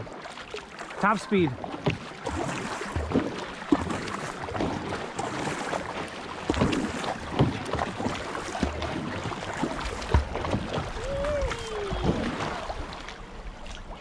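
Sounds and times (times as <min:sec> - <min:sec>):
kayak paddles splashing: 0:00.0 - 0:14.0
water washing along hull: 0:00.0 - 0:14.0.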